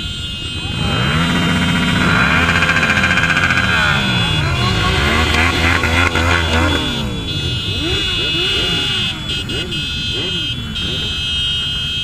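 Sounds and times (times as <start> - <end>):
motorcycle engine running: 0.0 - 12.0
motorcycle engines revving: 0.0 - 12.0.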